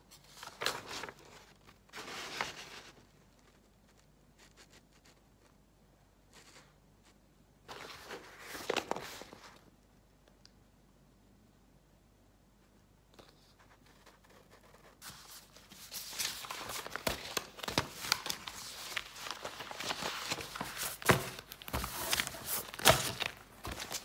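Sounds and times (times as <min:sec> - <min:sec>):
rustling and handling noise: 0:00.0 - 0:10.4, 0:12.7 - 0:24.0.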